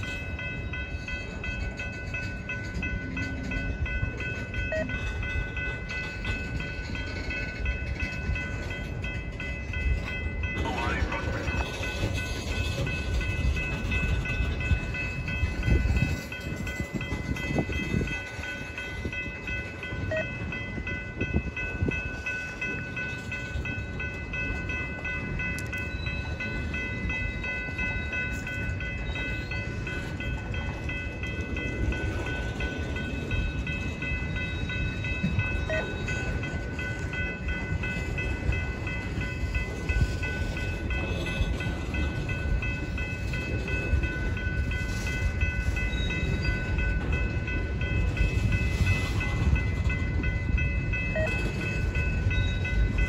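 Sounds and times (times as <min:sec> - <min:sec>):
steady high ringing: 0:00.0 - 0:53.0
train wheels rumbling on rails: 0:00.0 - 0:53.0.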